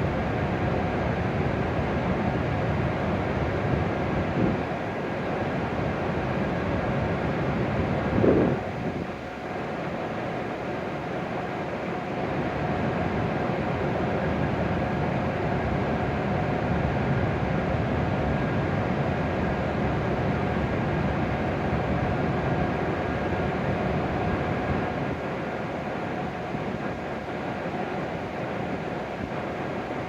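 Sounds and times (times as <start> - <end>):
faint train whine: 0.0 - 30.0.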